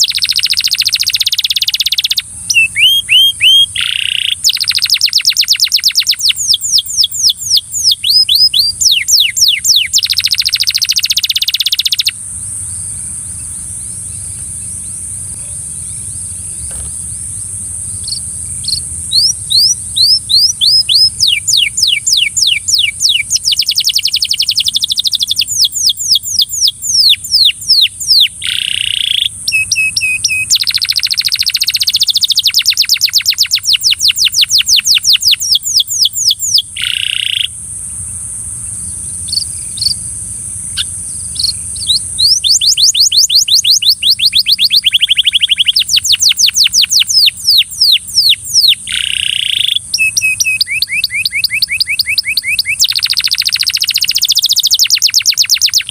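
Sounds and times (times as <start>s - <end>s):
canary singing: 0.0s - 37.6s, 40.7s - 55.9s.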